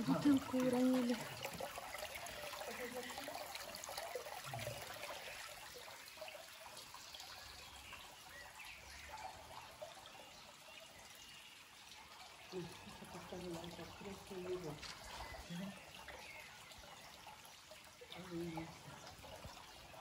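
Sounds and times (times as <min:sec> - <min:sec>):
spring water trickling: 0:00.0 - 0:20.0.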